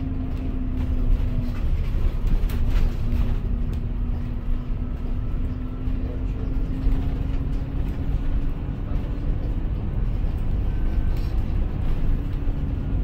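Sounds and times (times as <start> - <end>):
bus engine and road rumble: 0.0 - 13.0
constant hum: 0.0 - 13.0.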